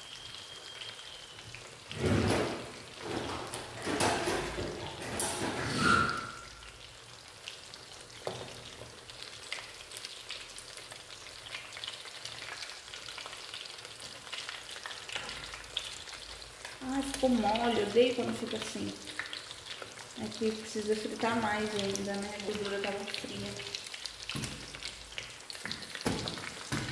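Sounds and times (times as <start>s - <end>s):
cutlets sizzling in oil: 0.0s - 26.9s.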